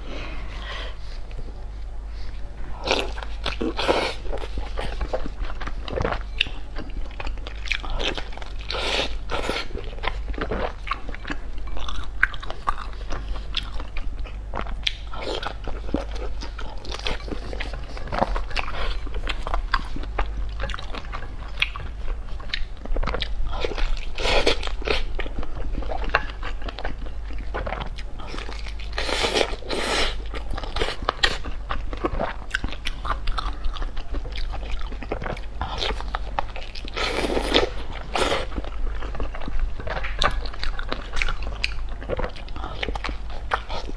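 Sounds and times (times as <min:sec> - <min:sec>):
biting and chewing sausage: 0:02.8 - 0:43.9.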